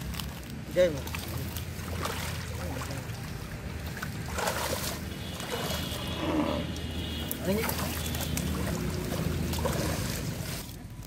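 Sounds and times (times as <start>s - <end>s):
muddy water sloshing and splashing: 0.0s - 11.0s.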